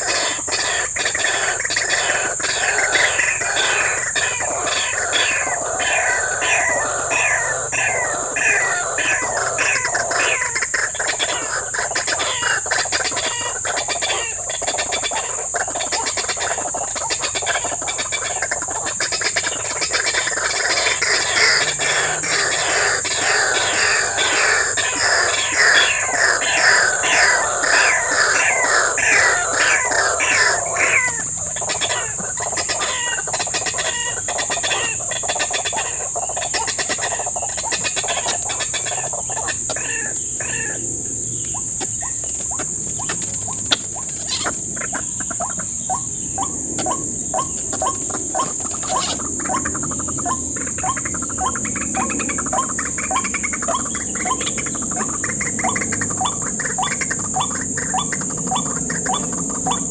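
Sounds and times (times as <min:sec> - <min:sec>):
waterhens calling: 0:00.0 - 0:59.9.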